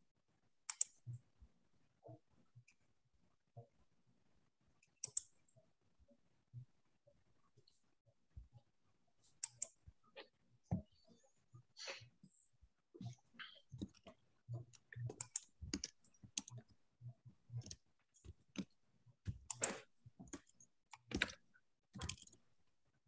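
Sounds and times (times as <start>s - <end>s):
faint irregular clicks and taps: 0.6s - 2.9s, 4.8s - 22.5s.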